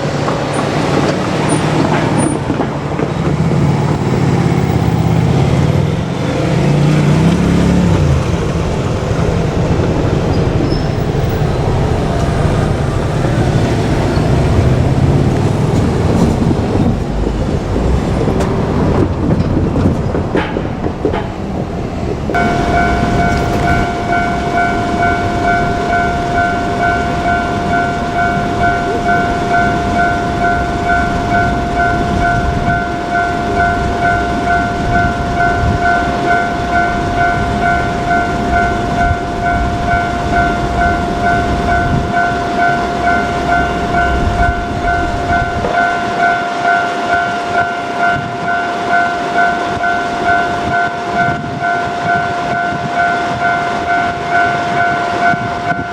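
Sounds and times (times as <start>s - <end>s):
level-crossing warning bell ringing: 0.0s - 55.9s
train rumbling: 0.0s - 55.9s.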